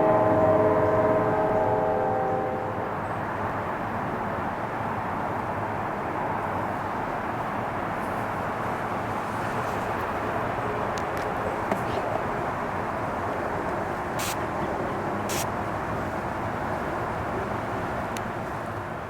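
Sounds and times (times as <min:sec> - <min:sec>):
distant traffic hum: 0:00.0 - 0:19.0.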